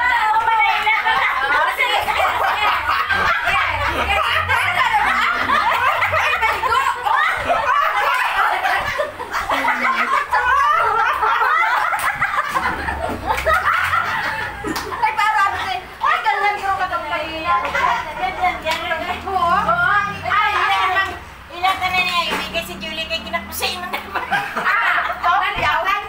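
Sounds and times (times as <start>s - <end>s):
overlapping voices talking: 0.0s - 26.0s
people laughing: 0.0s - 26.0s.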